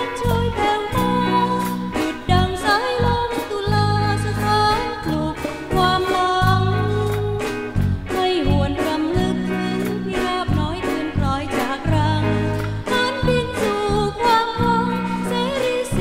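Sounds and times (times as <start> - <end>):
instrumental accompaniment with beat: 0.0 - 16.0
person singing: 0.0 - 16.0.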